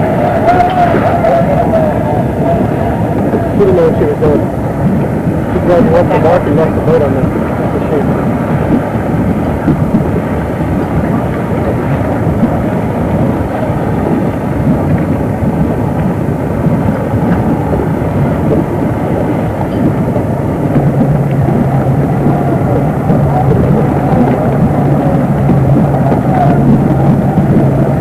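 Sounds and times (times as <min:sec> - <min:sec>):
engine hum: 0:00.0 - 0:28.0
motorboat engine rumble: 0:00.0 - 0:28.0
wind on microphone: 0:00.0 - 0:28.0.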